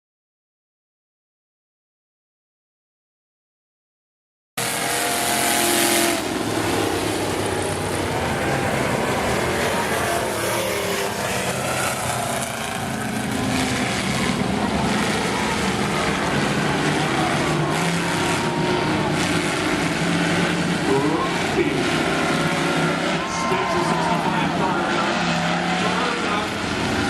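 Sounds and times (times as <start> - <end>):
car engines revving: 4.6 - 27.0
loud rushing noise: 4.6 - 27.0.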